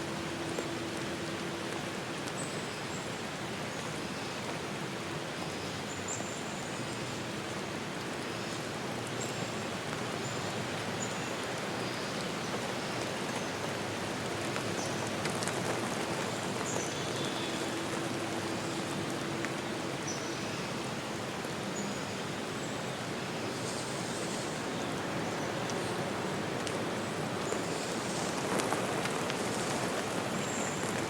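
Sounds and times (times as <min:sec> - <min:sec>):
rushing water: 0:00.0 - 0:31.0.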